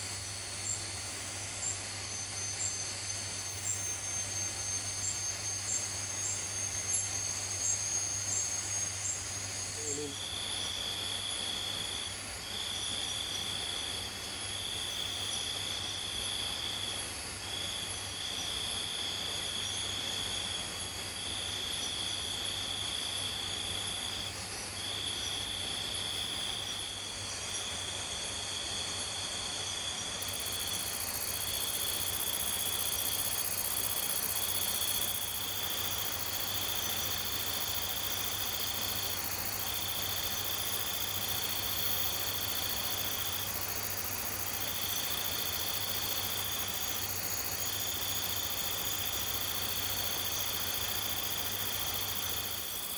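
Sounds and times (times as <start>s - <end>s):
high insect trill: 0.0s - 52.9s
hiss of insects: 0.0s - 52.9s.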